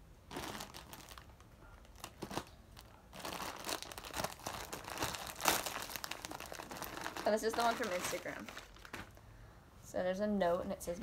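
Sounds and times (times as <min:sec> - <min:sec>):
plastic bag crinkling: 0:00.3 - 0:09.2.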